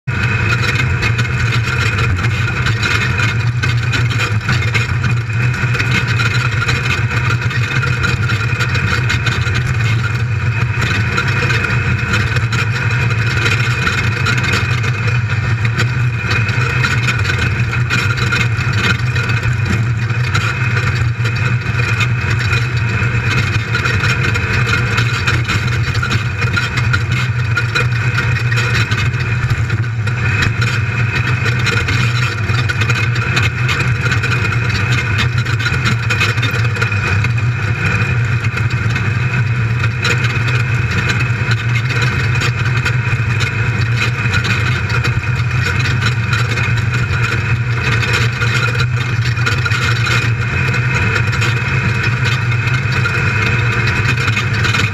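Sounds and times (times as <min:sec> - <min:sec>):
engine drone from cockpit: 0:00.0 - 0:54.9.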